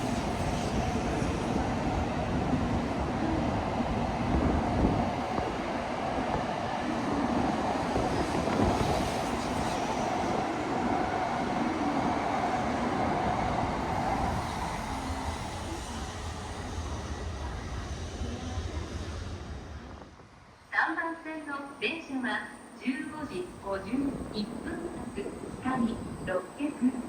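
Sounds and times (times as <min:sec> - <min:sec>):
train rushing noise: 0:00.0 - 0:20.6, 0:22.6 - 0:27.0.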